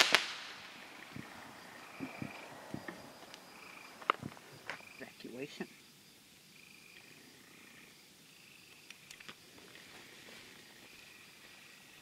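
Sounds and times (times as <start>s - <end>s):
insects or frogs trilling: 0.6s - 12.0s.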